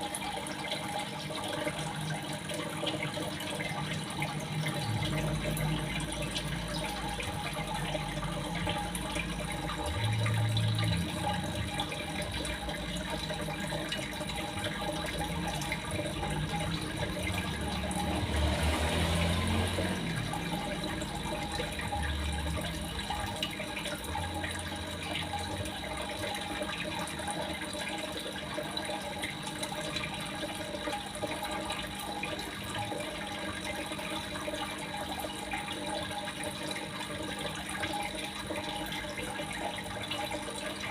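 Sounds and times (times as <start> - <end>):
water running: 0.0 - 40.9.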